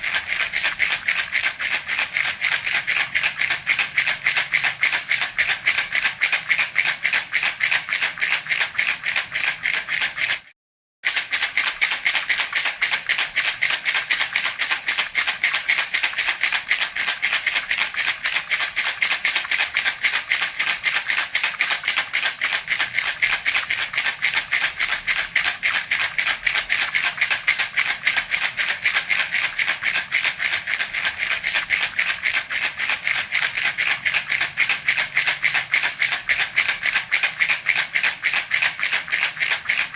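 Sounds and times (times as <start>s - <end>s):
baby rattle shaken: 0.0s - 10.5s, 11.1s - 39.9s.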